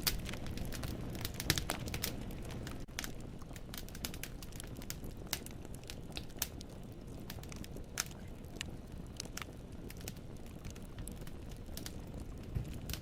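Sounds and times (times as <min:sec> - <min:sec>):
flames rumbling: 0:00.0 - 0:13.0
logs snapping and popping: 0:00.0 - 0:13.0.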